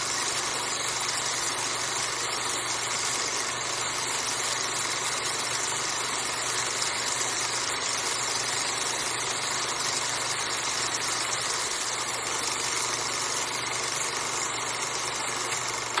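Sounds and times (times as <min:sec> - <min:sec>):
film projector running: 0:00.0 - 0:16.0.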